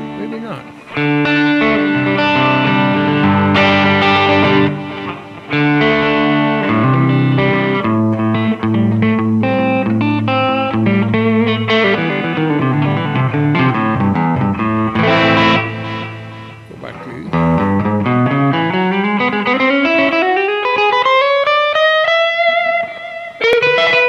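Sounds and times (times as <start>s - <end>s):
clean electric guitar playing: 0.0s - 24.0s.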